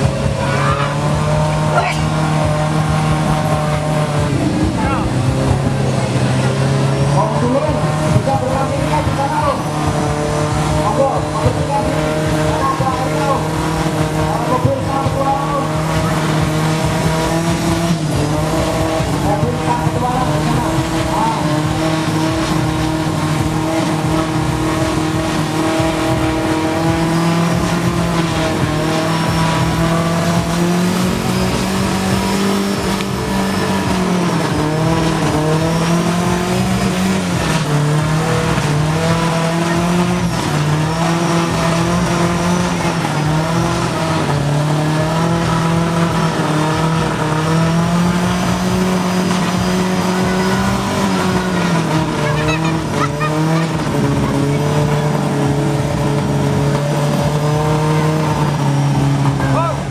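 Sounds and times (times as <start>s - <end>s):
jeep engine revving: 0.0s - 59.9s.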